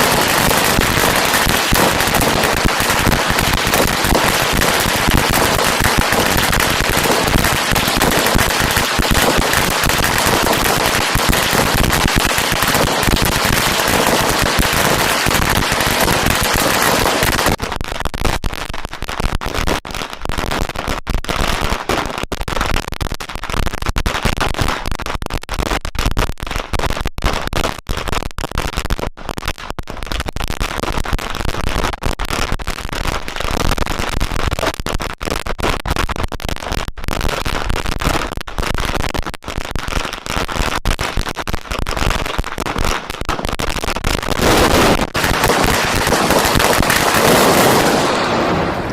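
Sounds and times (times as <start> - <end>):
firecrackers crackling and banging: 0.0 - 48.9.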